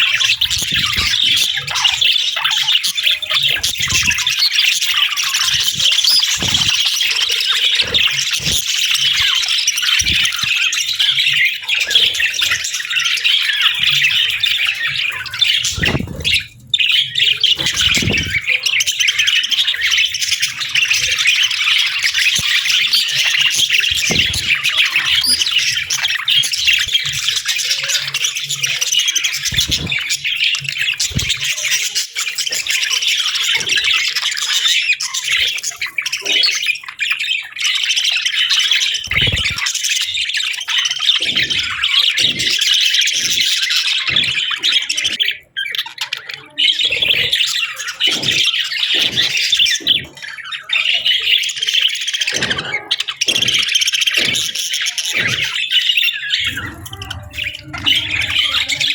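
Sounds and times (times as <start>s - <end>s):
budgerigars chirping: 0.0s - 58.9s.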